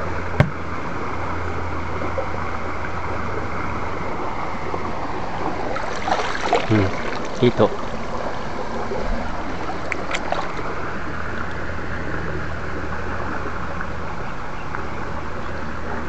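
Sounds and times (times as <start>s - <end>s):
low hum: 0.0s - 16.0s
stream water running over rocks: 0.0s - 16.0s.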